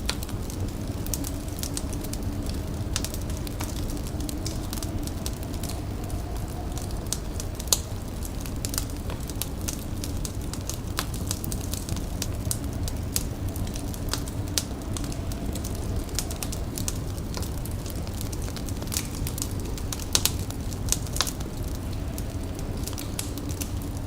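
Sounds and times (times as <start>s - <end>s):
fire crackling and popping: 0.0s - 24.0s
low rumble: 0.0s - 24.0s.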